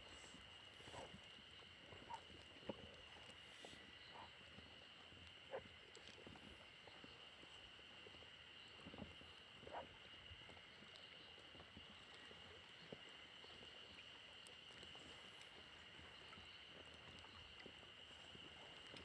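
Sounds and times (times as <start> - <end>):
cicadas droning: 0.0 - 19.0
small waves lapping: 0.0 - 19.0.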